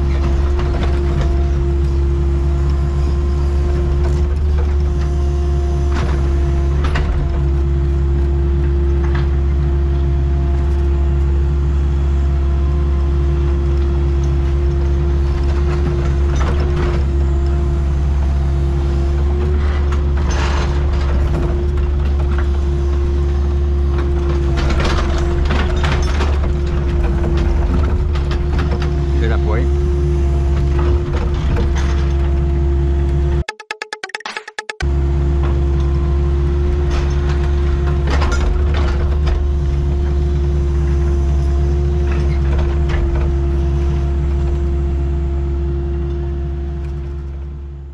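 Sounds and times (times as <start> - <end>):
excavator engine and hydraulics: 0.0 - 33.5, 34.8 - 47.9.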